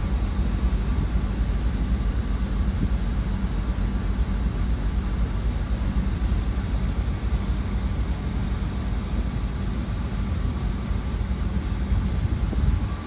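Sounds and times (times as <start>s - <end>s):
faint steady hum: 0.0s - 13.0s
ferry engine rumble: 0.0s - 13.0s
wind buffeting microphone: 0.0s - 13.0s.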